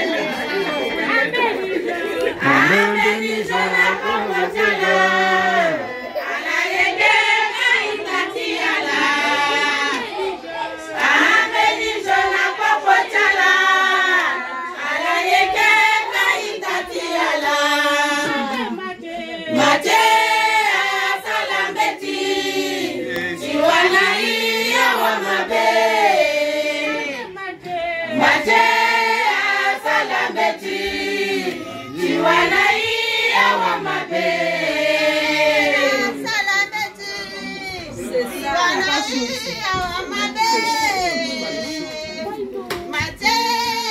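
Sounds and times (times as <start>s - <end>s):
women singing in chorus: 0.0s - 43.9s.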